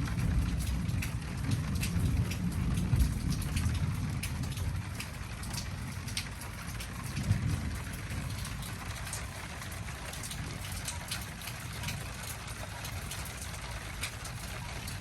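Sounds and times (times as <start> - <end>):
low thunder rumble: 0.0 - 15.0
raindrops ticking: 0.0 - 15.0.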